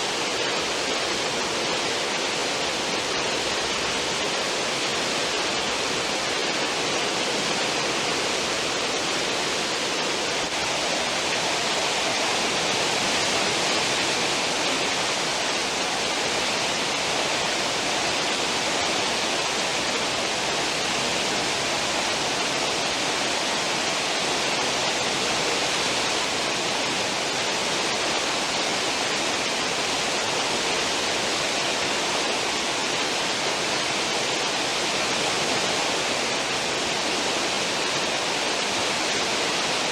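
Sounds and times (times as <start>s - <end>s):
wake water rushing: 0.0s - 39.9s.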